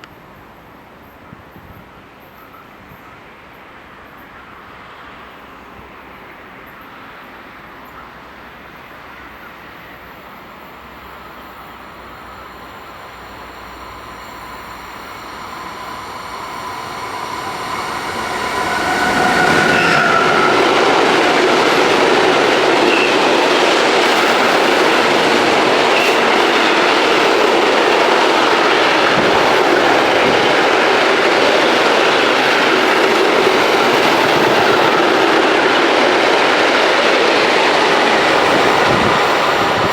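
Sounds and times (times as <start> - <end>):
train wheels rushing on rails: 3.2 - 39.9.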